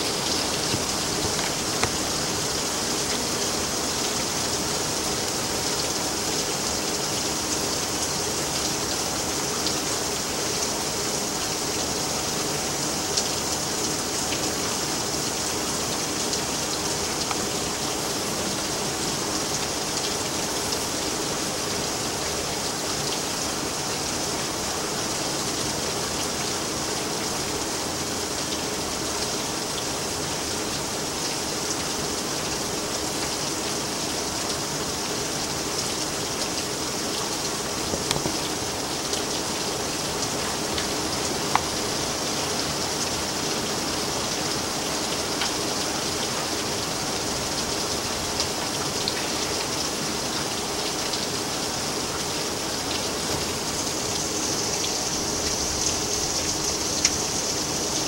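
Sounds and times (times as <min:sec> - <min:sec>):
heavy rain splashing: 0:00.0 - 0:58.0.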